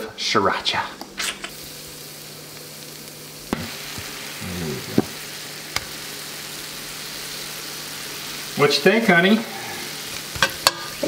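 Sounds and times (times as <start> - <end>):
food sizzling in a skillet: 1.2 - 11.0.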